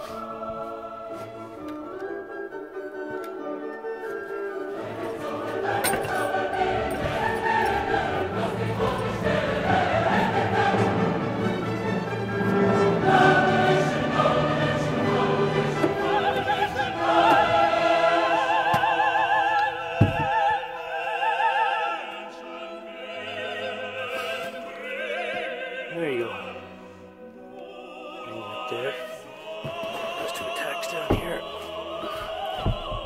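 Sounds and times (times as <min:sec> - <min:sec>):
operatic singing with orchestra: 0:00.0 - 0:02.8, 0:04.6 - 0:33.0.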